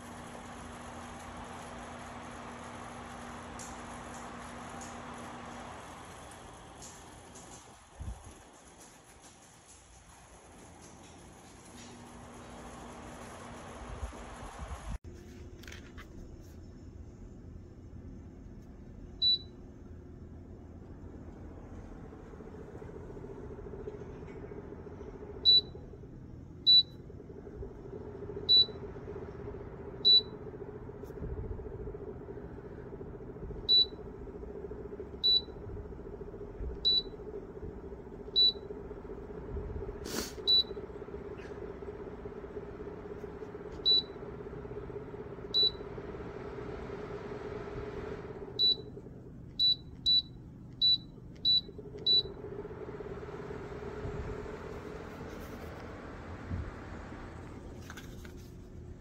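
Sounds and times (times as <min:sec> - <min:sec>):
fan whoosh and hum: 0:00.0 - 0:59.0.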